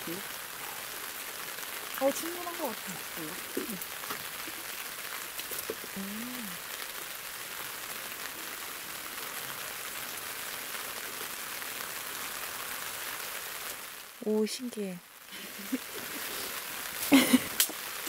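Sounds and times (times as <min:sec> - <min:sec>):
rain pattering on tent fabric: 0:00.0 - 0:18.0.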